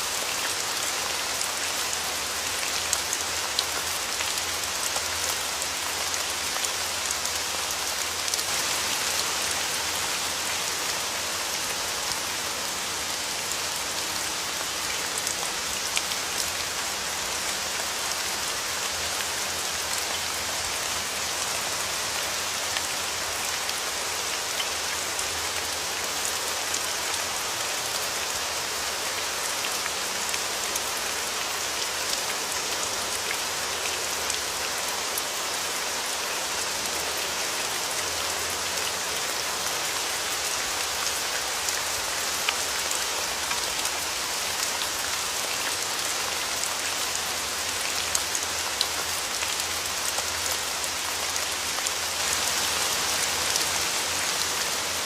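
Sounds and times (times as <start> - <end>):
hiss of rain: 0.0 - 55.0.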